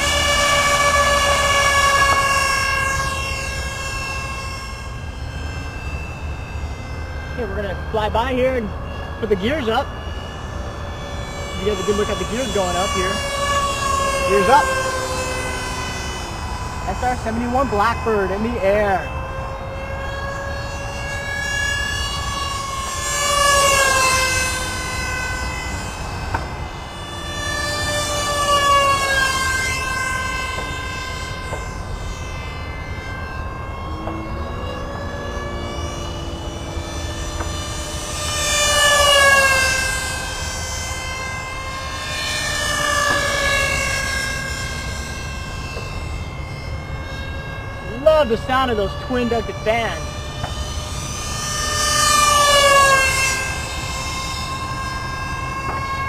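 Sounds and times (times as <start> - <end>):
model jet fans whining: 0.0 - 56.0.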